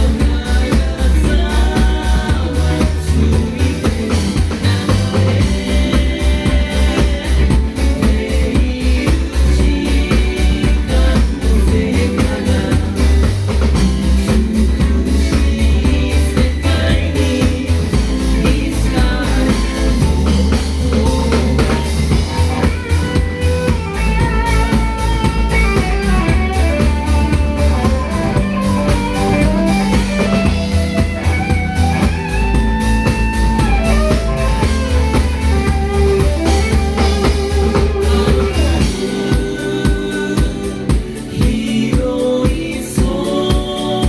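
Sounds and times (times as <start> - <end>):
guitar melody: 0.0 - 41.3
bass: 0.0 - 44.0
drum kit: 0.0 - 44.0.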